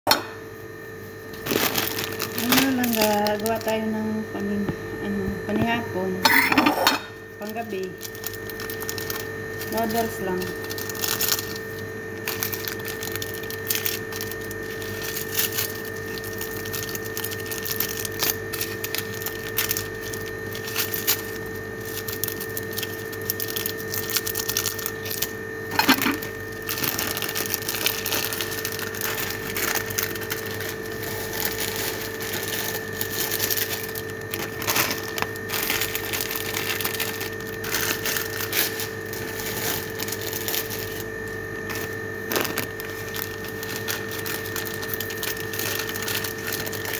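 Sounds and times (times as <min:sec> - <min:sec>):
steady two-tone hum: 0:00.1 - 0:46.9
plastic packets crinkling: 0:01.2 - 0:03.9, 0:07.4 - 0:46.9.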